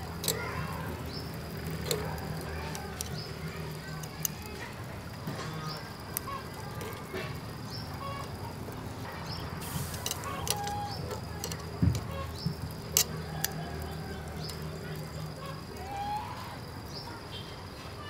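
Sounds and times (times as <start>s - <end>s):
tongs clicking on a wire grill: 0.0s - 4.8s, 5.5s - 15.9s
birds calling: 0.0s - 17.4s.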